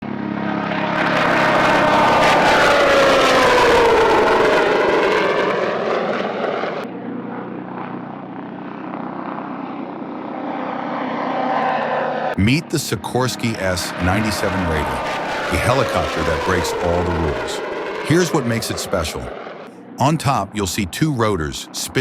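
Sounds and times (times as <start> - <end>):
dull aircraft noise: 0.0 - 22.0
helicopter flying past: 0.0 - 22.0.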